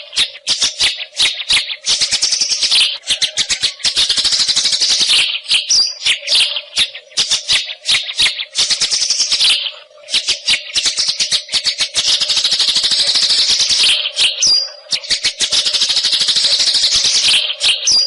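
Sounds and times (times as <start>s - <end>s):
songbird chattering and whistling: 0.0s - 18.0s.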